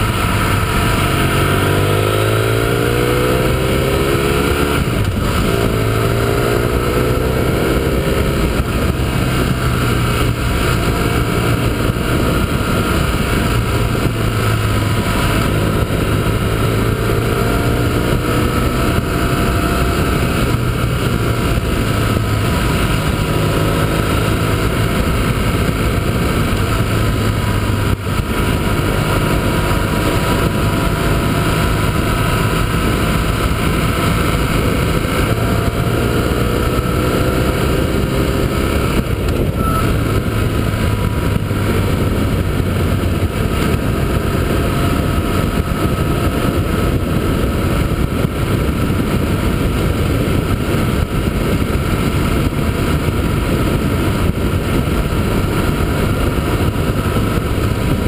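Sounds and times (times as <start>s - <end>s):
motorcycle engine revving: 0.0s - 58.0s
wind noise rushing: 0.0s - 58.0s.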